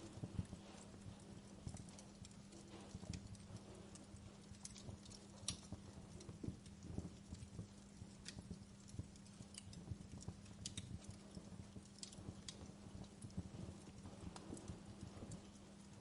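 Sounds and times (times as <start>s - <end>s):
steady low hum: 0.0s - 16.0s
wood fire crackling: 0.0s - 16.0s.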